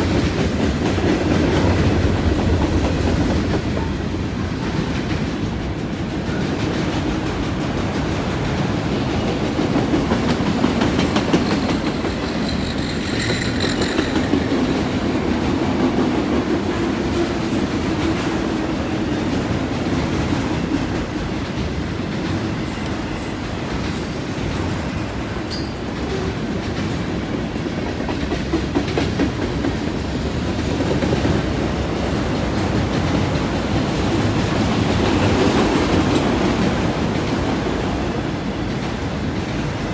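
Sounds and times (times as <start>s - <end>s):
freight train wheels clicking on rails: 0.0s - 39.9s.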